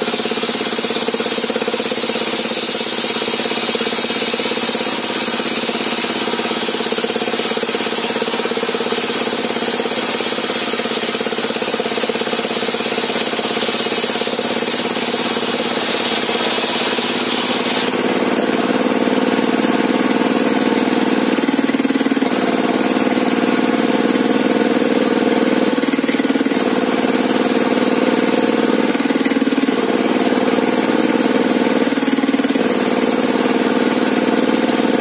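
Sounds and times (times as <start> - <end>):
sawmill engine running: 0.0 - 35.0.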